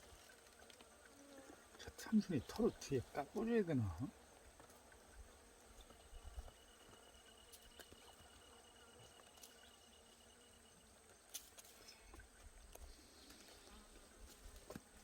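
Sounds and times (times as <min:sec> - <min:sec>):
insect calling: 0:00.2 - 0:13.6.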